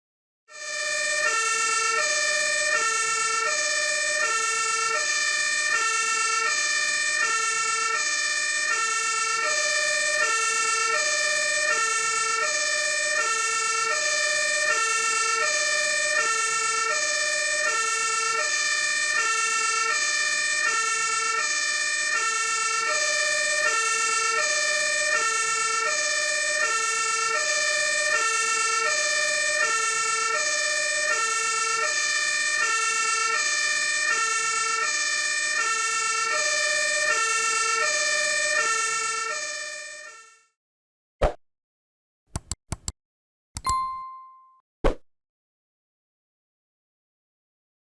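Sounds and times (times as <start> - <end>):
two-tone fire engine siren: 0.5 - 40.6.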